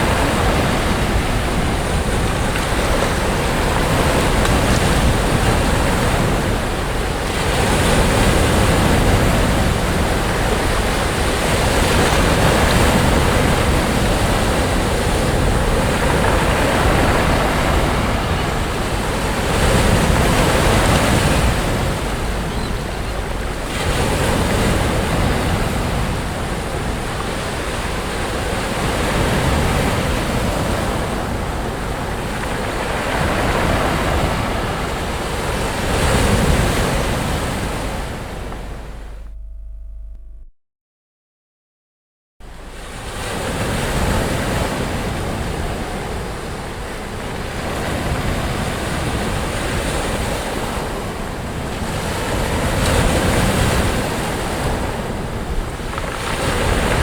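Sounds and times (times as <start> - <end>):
sea waves breaking on beach: 0.0 - 39.2, 42.6 - 57.0.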